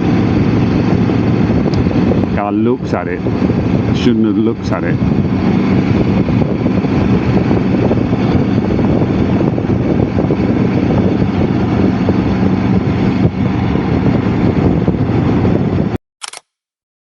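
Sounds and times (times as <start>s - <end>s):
motorcycle engine droning: 0.0s - 16.0s
road and wind noise: 0.0s - 16.4s.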